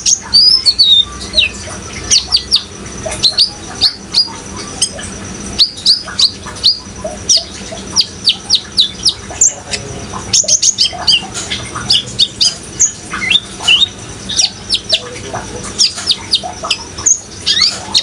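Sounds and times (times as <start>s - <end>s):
bird chirping high and sharp: 0.0s - 5.0s, 5.6s - 9.6s, 10.3s - 15.0s, 15.8s - 18.0s.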